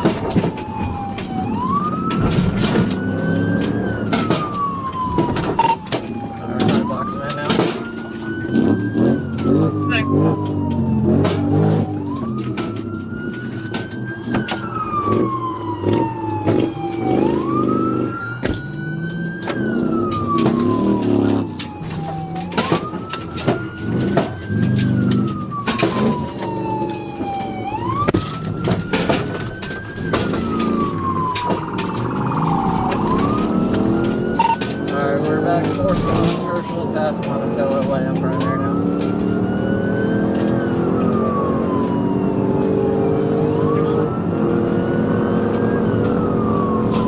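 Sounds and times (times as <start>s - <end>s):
car engine and road noise: 0.0s - 47.0s
police siren wailing: 0.0s - 47.0s.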